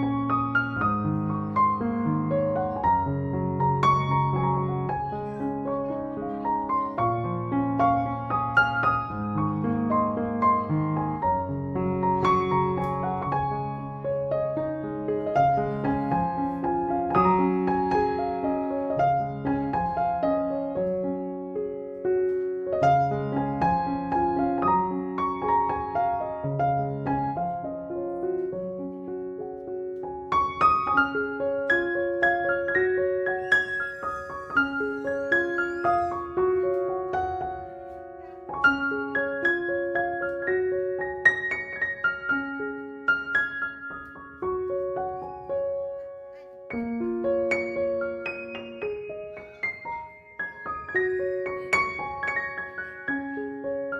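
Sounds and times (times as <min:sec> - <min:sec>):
gentle piano music: 0:00.0 - 0:53.9.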